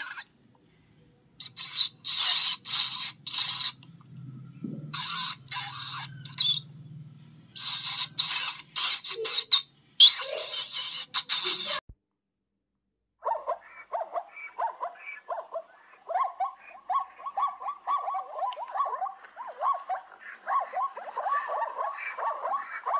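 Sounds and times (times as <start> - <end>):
marmots squealing: 0.0 - 0.4, 1.4 - 3.8, 4.9 - 6.8, 7.5 - 11.8, 13.3 - 22.9.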